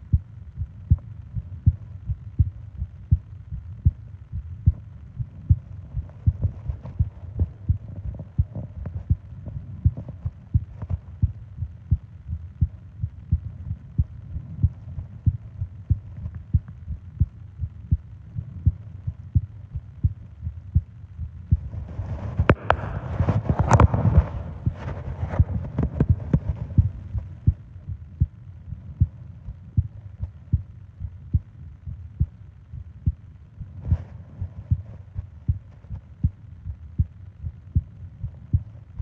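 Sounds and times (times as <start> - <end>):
heartbeat thumps: 0.0 - 39.0.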